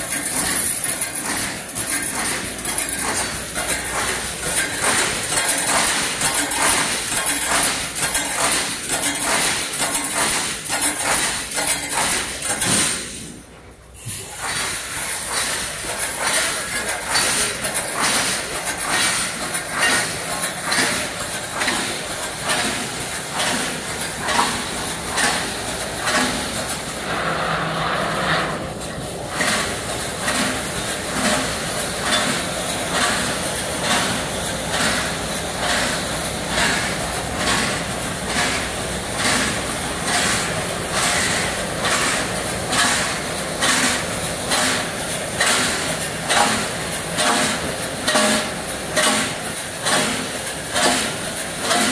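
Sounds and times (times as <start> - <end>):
machine running noise: 0.0 - 51.9
welding machine clacking strokes: 0.0 - 51.9.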